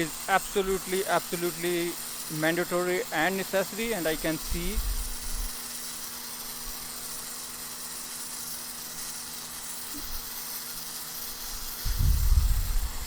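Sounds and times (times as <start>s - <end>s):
pressure washer motor humming: 0.0s - 13.0s
water spray hissing on concrete: 0.0s - 13.0s.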